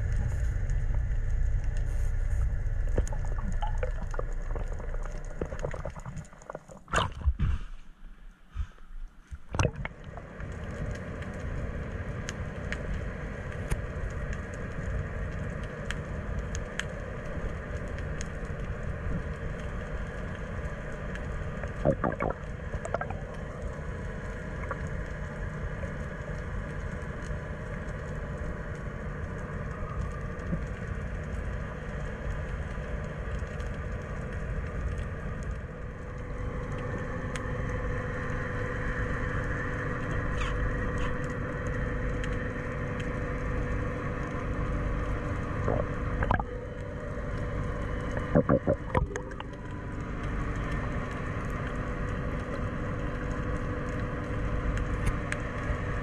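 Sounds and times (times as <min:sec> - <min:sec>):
engine hum through water: 0:00.0 - 0:07.4, 0:08.0 - 0:56.0
underwater low rumble: 0:00.0 - 0:56.0.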